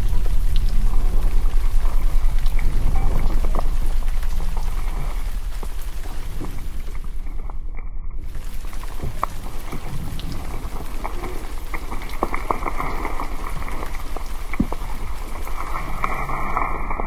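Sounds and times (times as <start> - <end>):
crackling noise with clicks: 0.0 - 17.0
low hum: 0.0 - 17.0.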